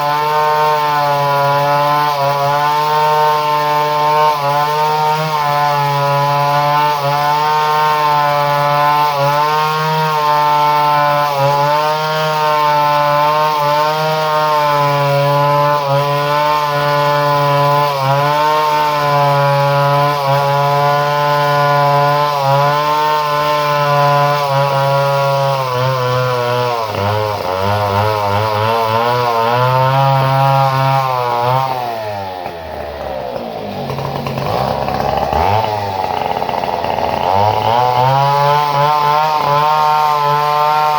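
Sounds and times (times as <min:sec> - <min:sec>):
chainsaw running at high revs: 0:00.0 - 0:40.9.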